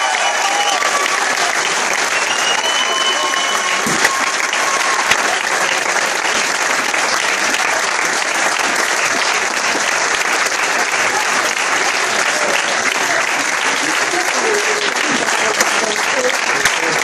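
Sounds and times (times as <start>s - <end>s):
crowd clapping: 0.0s - 17.0s.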